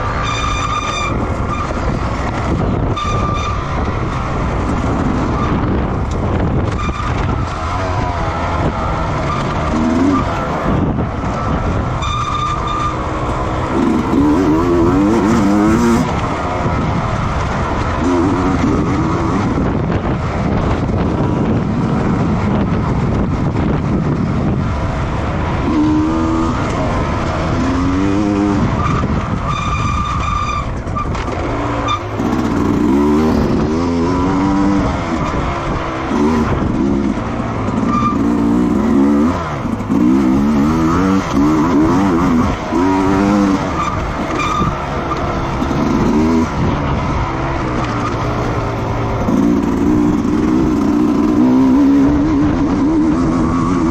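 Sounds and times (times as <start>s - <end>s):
racing motorcycle engines revving: 0.0s - 53.9s.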